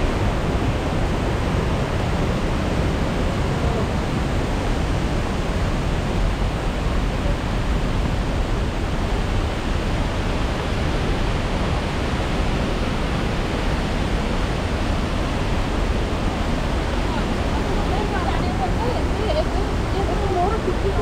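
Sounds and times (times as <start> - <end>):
rushing water roar: 0.0 - 21.0.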